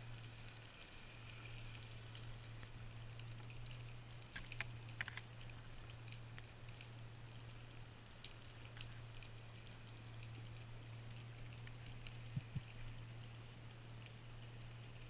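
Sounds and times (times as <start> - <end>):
light crackling clicks underwater: 0.0 - 15.0
steady low hum: 0.0 - 15.0.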